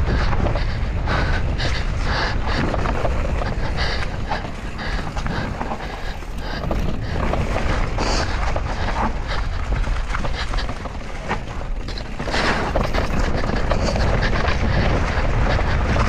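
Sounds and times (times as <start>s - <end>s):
bike clicking and rattling: 0.0s - 16.0s
wind rumbling on microphone: 0.0s - 16.0s.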